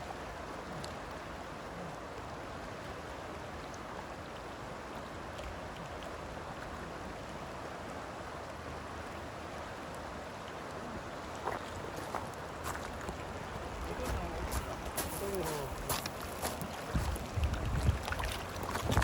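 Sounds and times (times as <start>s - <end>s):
river water rushing over shallows: 0.0s - 19.0s.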